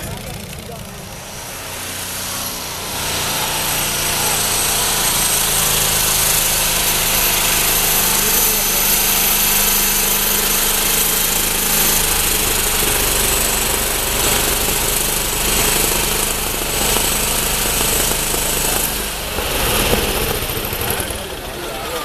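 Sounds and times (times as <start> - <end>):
tractor engine running loud: 0.0 - 22.0.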